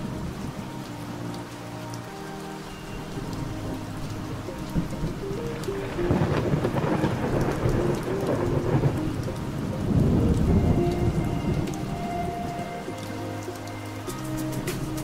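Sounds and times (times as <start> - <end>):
faint held music tones: 0.0 - 15.0
heavy rain: 0.0 - 15.0
thunder rumbling: 2.9 - 15.0.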